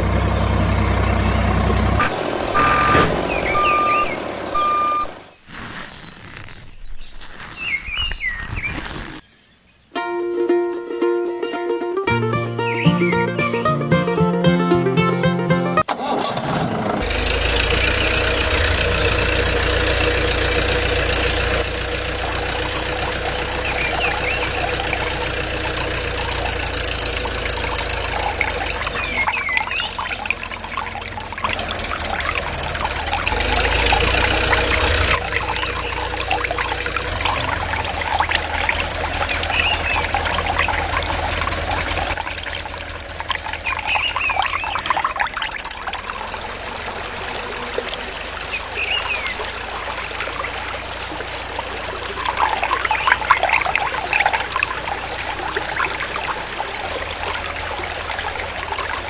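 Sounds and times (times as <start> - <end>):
water pouring and splashing: 0.0 - 9.3, 15.8 - 59.0.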